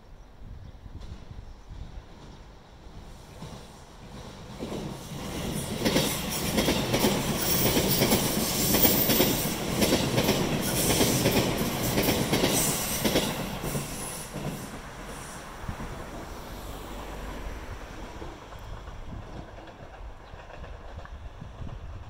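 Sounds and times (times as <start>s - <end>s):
train wheels clattering on rails: 0.9s - 16.1s, 18.0s - 22.0s.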